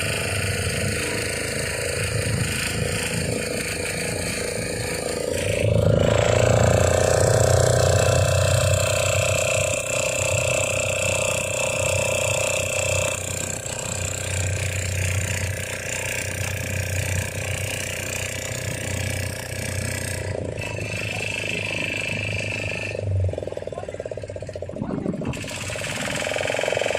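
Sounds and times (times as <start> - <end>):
engine with pulsing low drone: 0.0 - 26.9.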